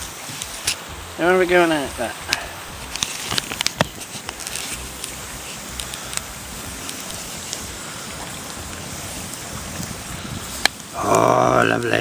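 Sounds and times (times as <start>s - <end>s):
campfire hissing: 0.0s - 12.0s
fire crackles and pops: 0.0s - 12.0s.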